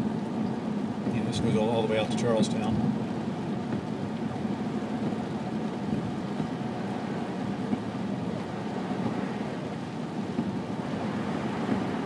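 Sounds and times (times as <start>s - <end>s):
car cabin road and engine noise: 0.0s - 12.0s.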